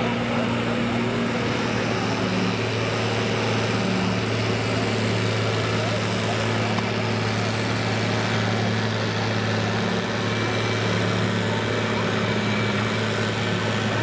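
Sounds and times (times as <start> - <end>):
tractor diesel engine running hard: 0.0 - 14.0.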